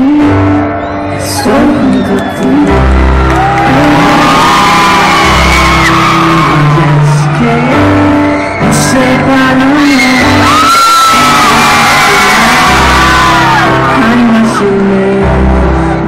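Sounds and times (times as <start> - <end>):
live pop band music: 0.0 - 16.0
person singing: 0.0 - 16.0.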